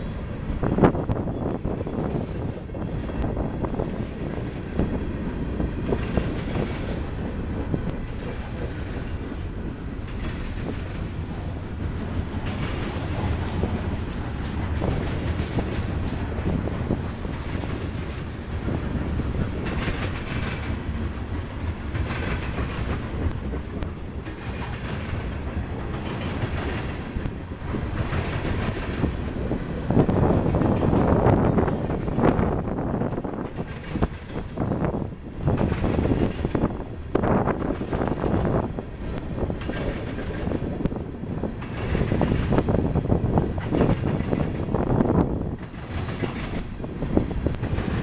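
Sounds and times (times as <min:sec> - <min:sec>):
freight train rumbling past: 0:00.0 - 0:48.0
wheels clicking over rail joints: 0:00.0 - 0:48.0.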